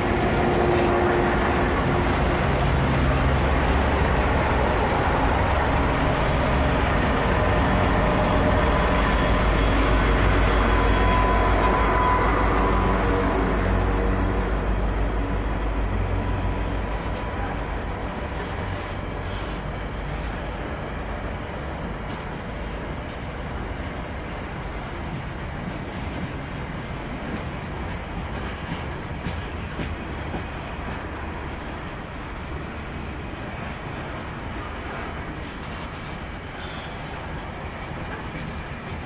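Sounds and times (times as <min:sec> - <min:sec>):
locomotive engine humming: 0:00.0 - 0:39.0.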